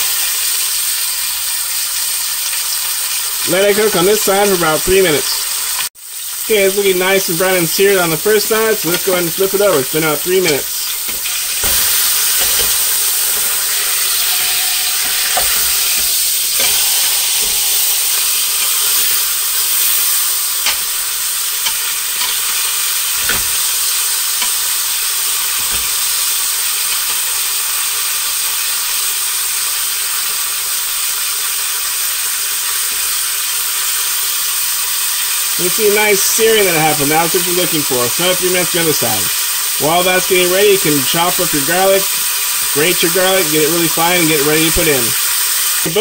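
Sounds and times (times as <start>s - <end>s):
meat sizzling in hot oil: 0.0s - 46.0s.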